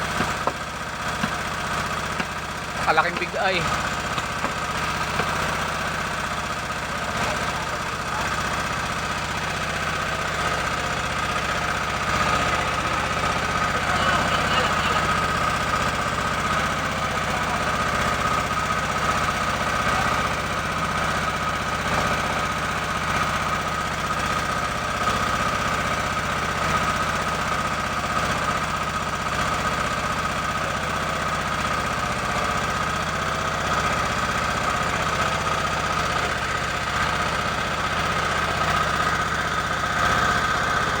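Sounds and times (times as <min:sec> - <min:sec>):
boat engine knocking drone: 0:00.0 - 0:41.0.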